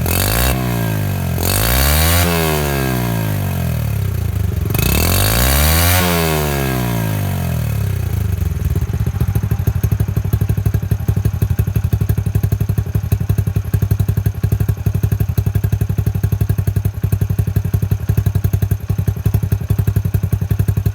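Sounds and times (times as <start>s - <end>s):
motorcycle engine revving and idling: 0.0s - 20.9s.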